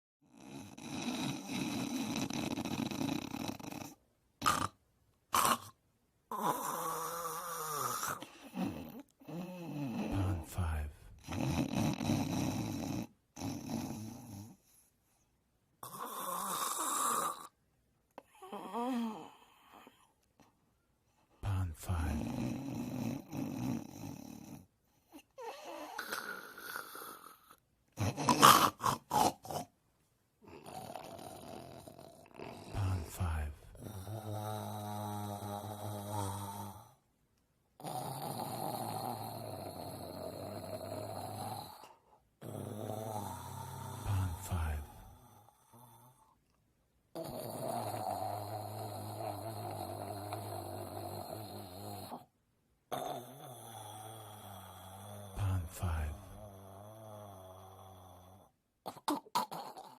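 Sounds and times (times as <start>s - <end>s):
person snoring: 0.2s - 14.8s, 15.8s - 17.6s, 18.2s - 20.1s, 21.4s - 29.7s, 30.4s - 37.0s, 37.8s - 46.4s, 47.2s - 52.3s, 52.9s - 60.0s
snorts: 0.2s - 14.8s, 15.8s - 17.6s, 21.7s - 29.8s, 30.4s - 37.0s, 37.8s - 46.4s, 47.2s - 52.3s, 52.9s - 60.0s.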